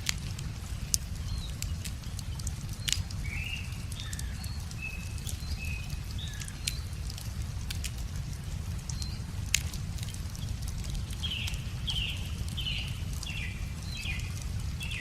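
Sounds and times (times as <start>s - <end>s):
wood fire crackling: 0.0s - 15.0s
small birds chirping: 0.1s - 7.2s, 8.8s - 15.0s.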